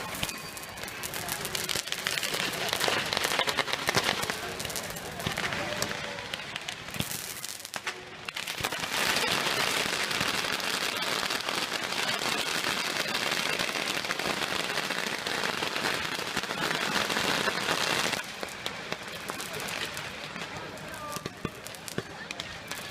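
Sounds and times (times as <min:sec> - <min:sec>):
firecrackers crackling: 0:00.0 - 0:22.9.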